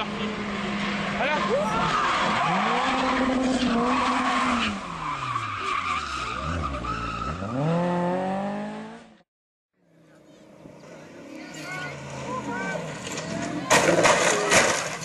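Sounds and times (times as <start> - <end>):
tyres skidding: 0.0 - 9.0, 10.3 - 15.0
rally car engine: 0.0 - 9.2, 9.8 - 15.0.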